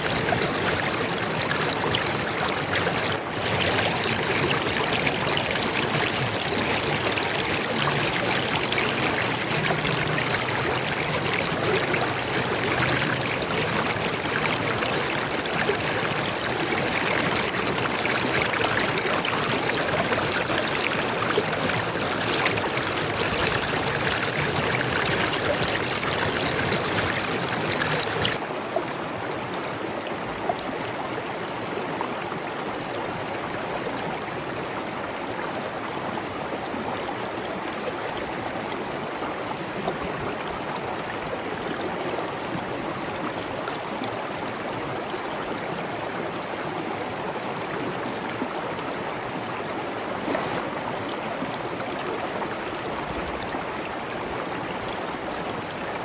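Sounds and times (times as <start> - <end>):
stream of water running: 0.0 - 56.0.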